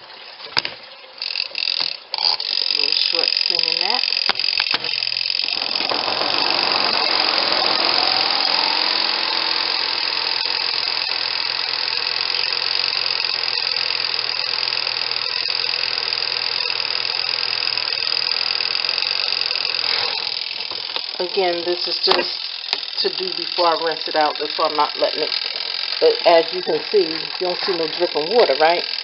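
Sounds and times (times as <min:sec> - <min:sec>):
washing machine spin motor whine: 0:00.0 - 0:29.0.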